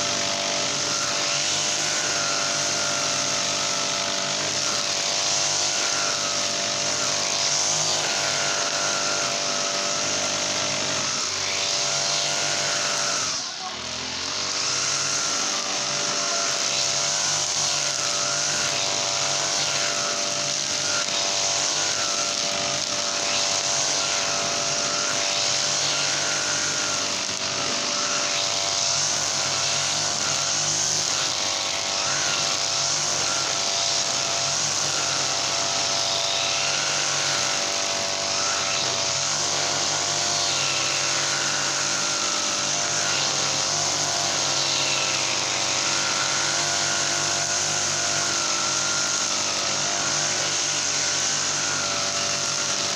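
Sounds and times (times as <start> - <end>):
brush cutter engine running: 0.0 - 52.9.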